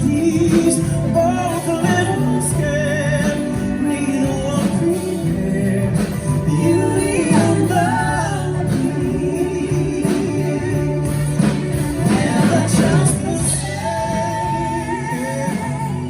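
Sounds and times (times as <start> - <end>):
band accompaniment: 0.0 - 16.0
person singing: 0.0 - 16.0.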